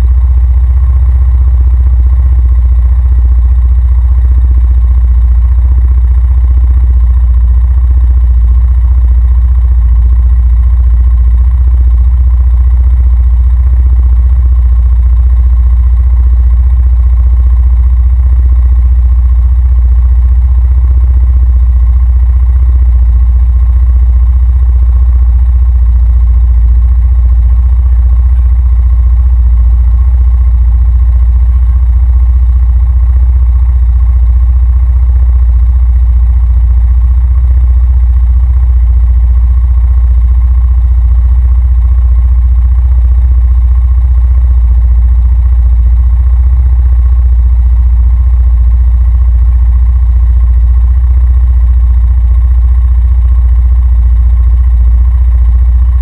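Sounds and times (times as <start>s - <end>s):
engine idling low rumble: 0.0s - 56.0s.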